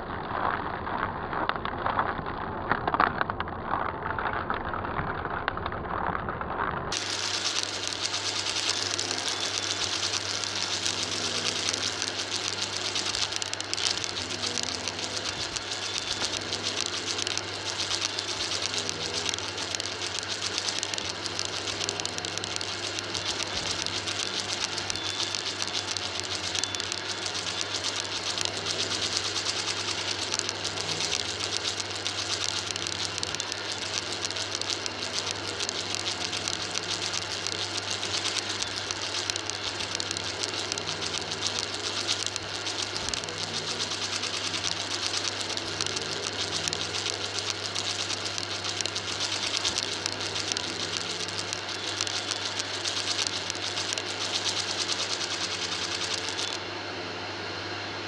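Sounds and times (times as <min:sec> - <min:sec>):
vacuum cleaner running: 0:06.9 - 0:58.0.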